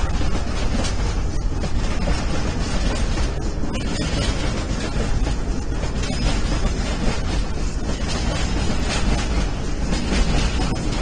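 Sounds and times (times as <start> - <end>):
train rumbling on tracks: 0.0 - 11.0.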